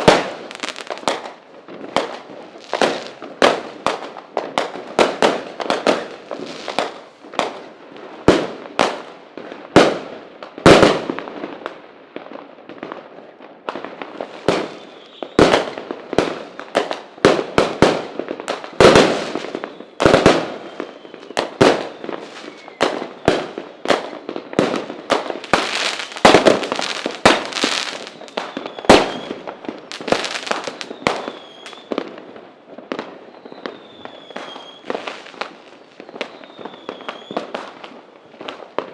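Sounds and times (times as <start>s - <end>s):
fireworks bangs and cracks: 0.0s - 38.9s.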